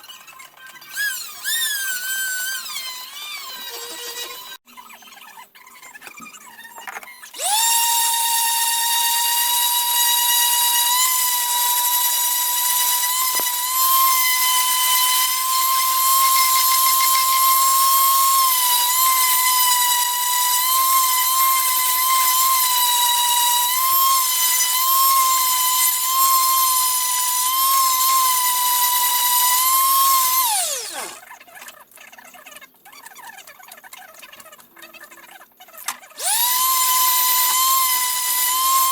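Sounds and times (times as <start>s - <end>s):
power tool motor whining: 0.6s - 4.6s, 6.6s - 31.2s, 36.2s - 38.9s.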